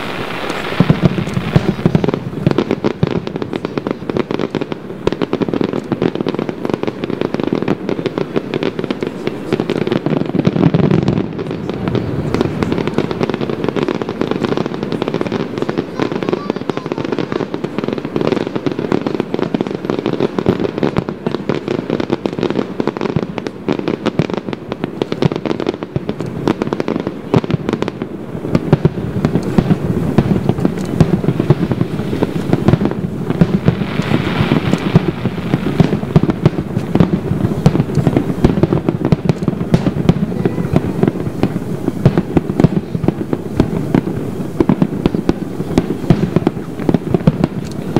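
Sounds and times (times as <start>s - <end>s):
fireworks booming and crackling: 0.0s - 47.9s.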